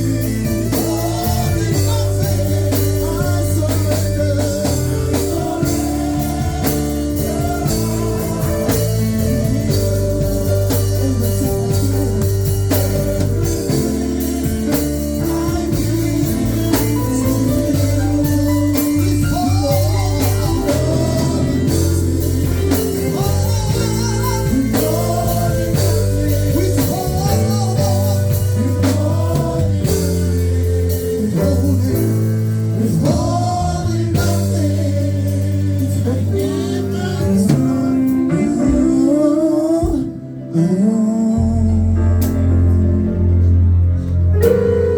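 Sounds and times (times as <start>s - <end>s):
live worship band with singing: 0.0s - 44.9s.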